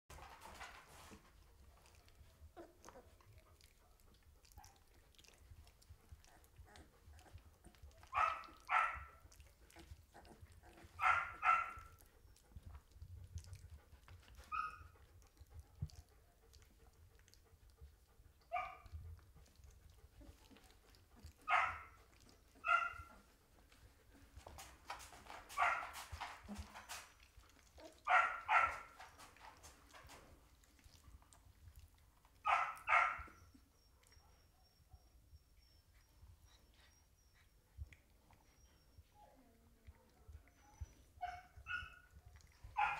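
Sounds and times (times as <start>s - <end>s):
puppies yelping and whining: 0.2s - 15.9s, 19.4s - 39.5s, 40.3s - 42.9s.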